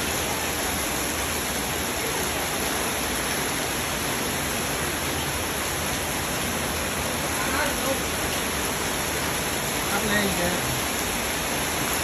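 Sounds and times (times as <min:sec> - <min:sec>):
heavy rain on floodwater: 0:00.0 - 0:12.0.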